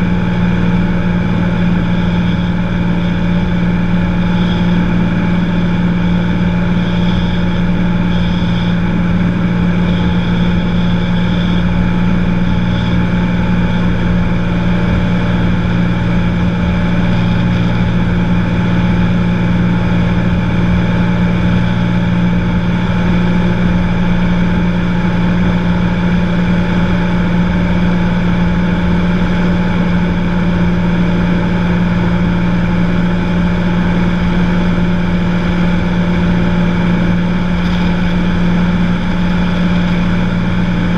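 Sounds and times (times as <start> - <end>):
aircraft engine and propeller drone: 0.0 - 40.9
rushing airflow: 0.0 - 40.9.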